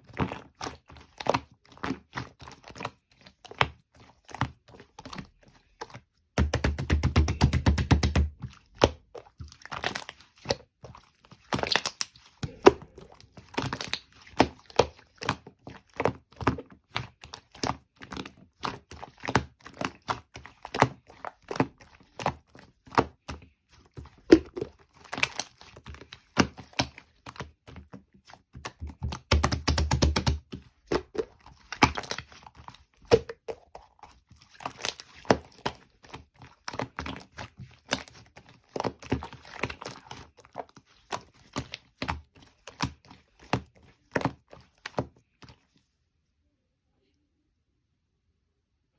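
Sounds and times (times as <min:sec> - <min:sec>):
slime being squished by hand: 0:00.0 - 0:45.8.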